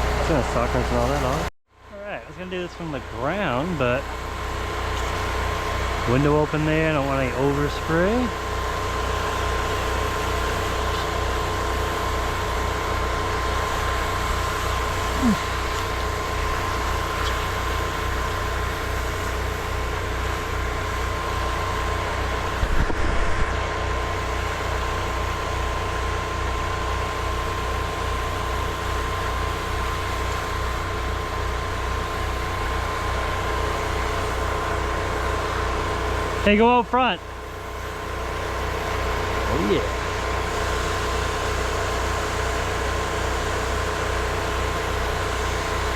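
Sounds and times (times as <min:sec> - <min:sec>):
generator and pump engine droning: 0:00.0 - 0:45.9.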